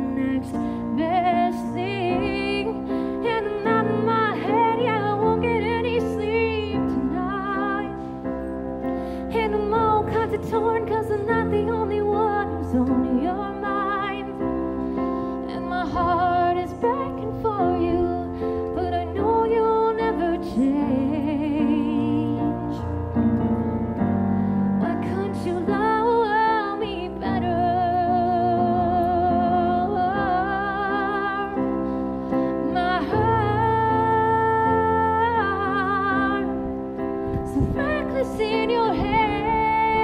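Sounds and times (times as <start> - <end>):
woman singing with vibrato: 0.0 - 8.0, 9.3 - 14.7, 15.4 - 23.0, 24.8 - 31.7, 32.6 - 36.6, 37.4 - 40.0
electric keyboard piano chords: 0.0 - 40.0.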